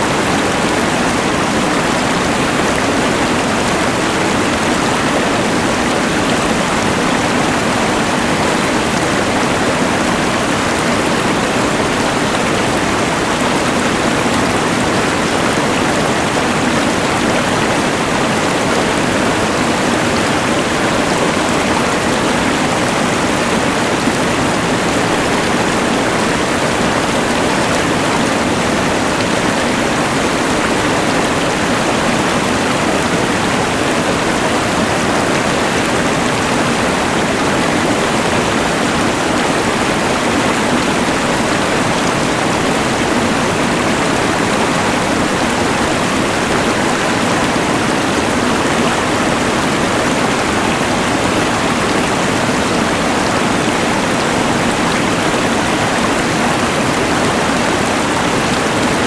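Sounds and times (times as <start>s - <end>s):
mountain river rushing: 0.0s - 59.0s.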